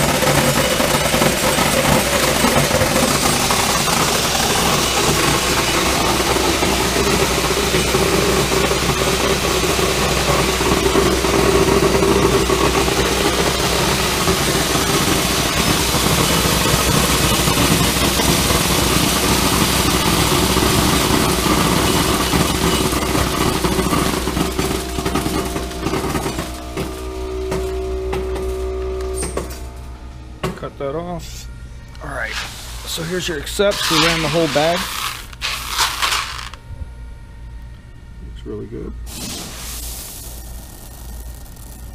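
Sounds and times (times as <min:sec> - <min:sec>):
popcorn kernels streaming down chutes: 0:00.0 - 0:28.5, 0:32.1 - 0:36.6, 0:39.1 - 0:41.9
machine hum: 0:00.0 - 0:41.9.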